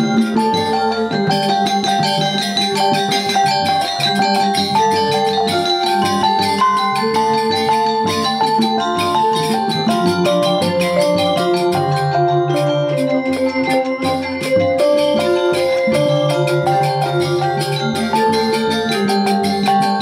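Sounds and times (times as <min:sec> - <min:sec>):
fast percussive beat: 0:00.0 - 0:20.0
mallet percussion melody: 0:00.0 - 0:20.0.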